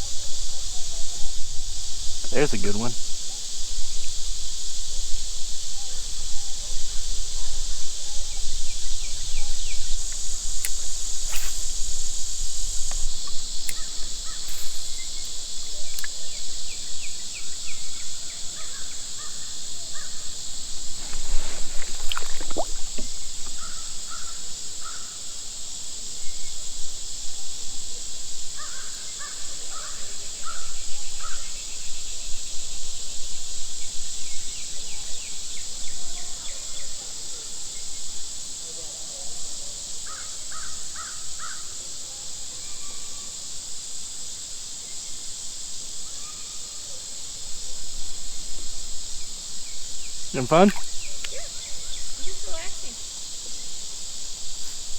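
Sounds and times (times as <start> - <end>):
high-pitched insect drone: 0.0 - 38.8, 39.9 - 54.9.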